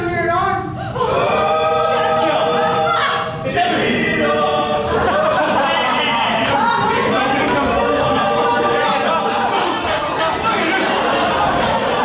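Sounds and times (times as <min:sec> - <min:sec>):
choir singing held notes: 0:01.0 - 0:12.0.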